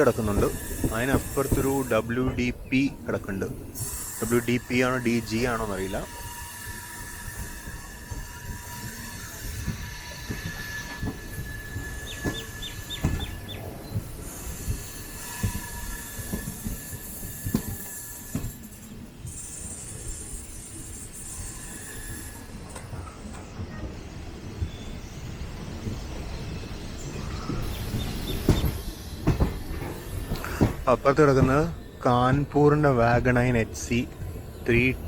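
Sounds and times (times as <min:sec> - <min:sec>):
train wheels knocking over rail joints: 0:00.0 - 0:19.0, 0:21.3 - 0:35.0
thin steady wheel squeal: 0:00.0 - 0:35.0.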